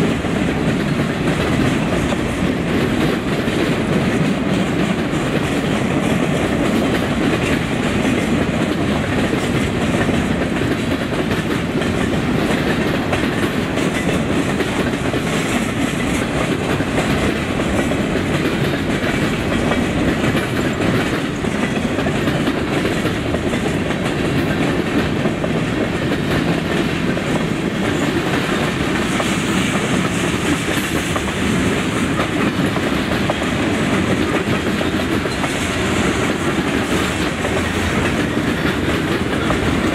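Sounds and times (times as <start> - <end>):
train cars rolling past: 0.0 - 39.9
wheels clacking over rail joints: 0.0 - 39.9.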